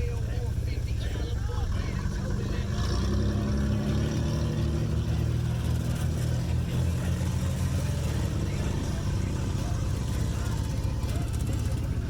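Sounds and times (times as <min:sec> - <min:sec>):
vehicle engine running low: 0:00.0 - 0:12.0.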